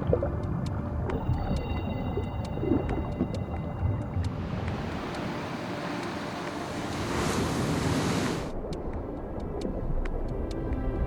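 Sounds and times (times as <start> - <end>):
low underwater rumbling wash: 0.0 - 11.0.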